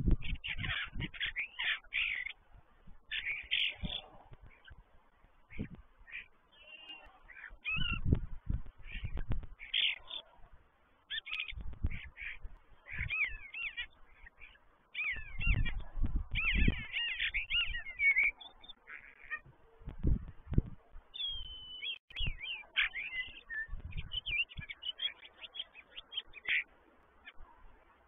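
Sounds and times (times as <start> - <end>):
starlings singing: 0.1 - 10.3, 11.0 - 19.4, 21.1 - 27.4.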